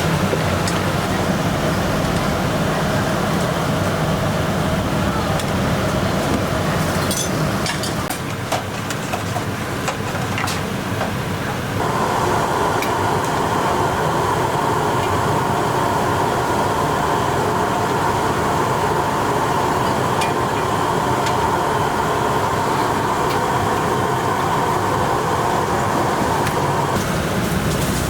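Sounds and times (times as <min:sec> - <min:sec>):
kitchen equipment roaring: 0:00.0 - 0:28.0.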